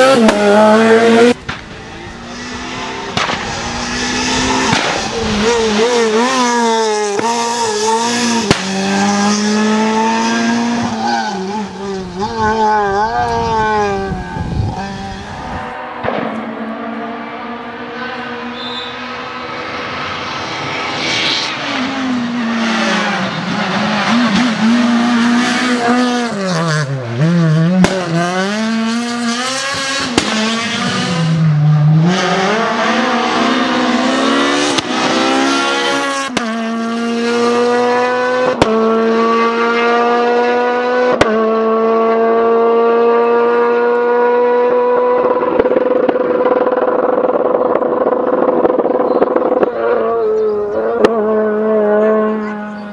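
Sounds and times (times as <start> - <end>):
rally car engine revving: 0.0 - 52.9.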